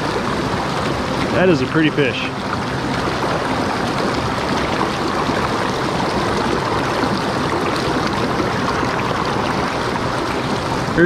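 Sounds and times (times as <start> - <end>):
river water rushing around boulders: 0.0 - 11.0.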